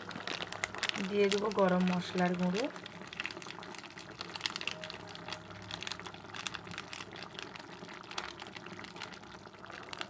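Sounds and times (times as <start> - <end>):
curry simmering with popping bubbles: 0.0 - 10.0.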